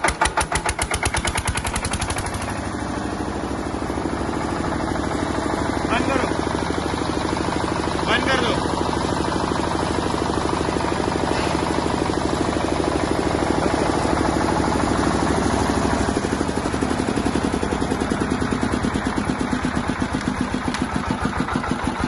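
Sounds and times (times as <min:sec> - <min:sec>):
diesel generator engine running: 0:00.0 - 0:22.0.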